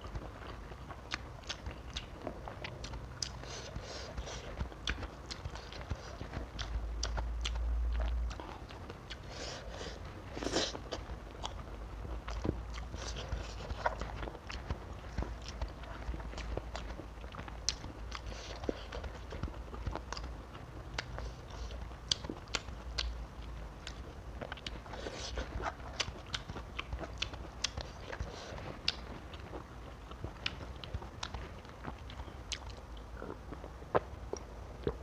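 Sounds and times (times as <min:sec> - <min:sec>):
person chewing: 0:00.0 - 0:35.0.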